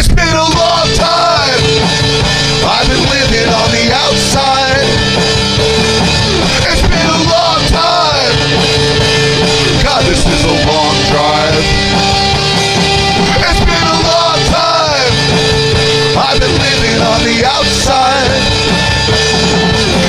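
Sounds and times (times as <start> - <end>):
full-band rock music: 0.0 - 20.0.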